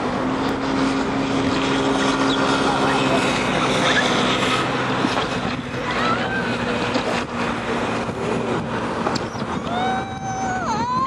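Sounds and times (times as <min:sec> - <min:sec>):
jet ski engine humming: 0:00.0 - 0:11.0.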